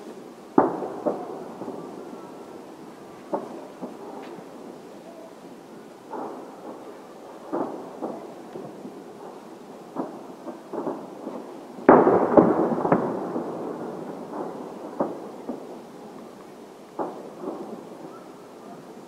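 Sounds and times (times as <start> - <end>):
distant firework booms: 0.5 - 5.3, 6.0 - 16.4, 17.0 - 18.8
loud firework bangs: 0.6 - 4.8, 6.0 - 16.2, 17.0 - 18.4.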